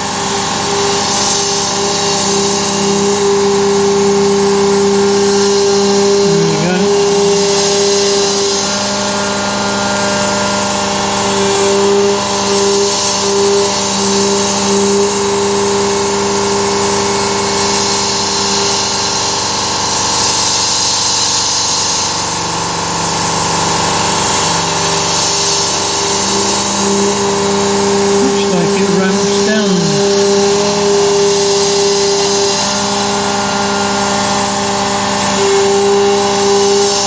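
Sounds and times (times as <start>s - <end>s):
cnc mill spindle whine: 0.0s - 37.0s.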